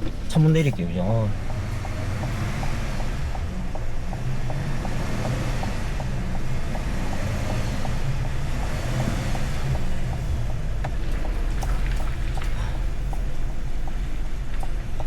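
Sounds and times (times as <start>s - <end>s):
car engine rumbling: 0.0s - 15.0s
faint even ticking: 0.0s - 15.0s.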